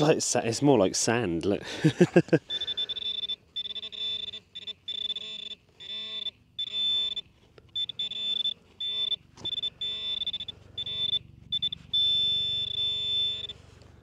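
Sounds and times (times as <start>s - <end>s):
pinpointer electronic buzz: 2.5s - 14.0s.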